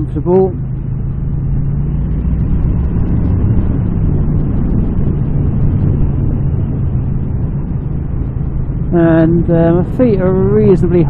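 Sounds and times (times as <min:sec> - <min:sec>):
motorcycle engine cruising: 0:00.0 - 0:11.0
road noise: 0:00.0 - 0:11.0
wind noise: 0:00.0 - 0:11.0.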